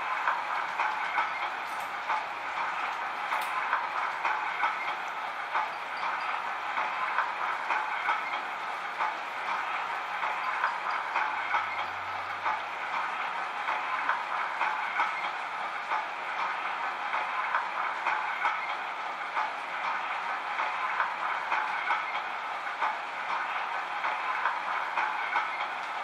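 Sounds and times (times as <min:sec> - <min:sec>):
model train rolling on track: 0:00.0 - 0:26.0.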